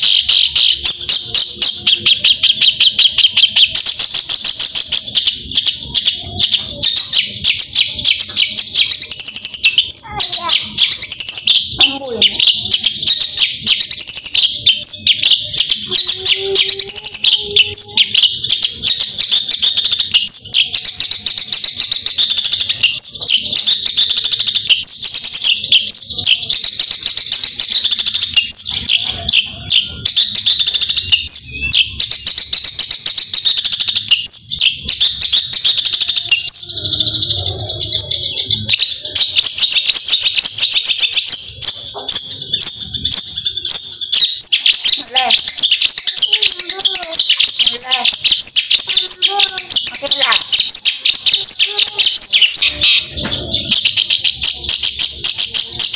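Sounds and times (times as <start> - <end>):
shrike singing fast chatter: 0.0 - 55.9.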